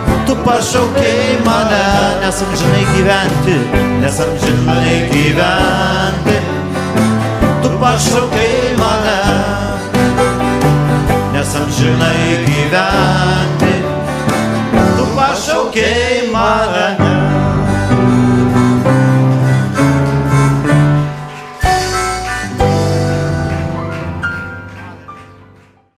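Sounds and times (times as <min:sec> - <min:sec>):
acoustic and electric guitars: 0:00.0 - 0:25.8
harmonica melody: 0:00.0 - 0:25.9.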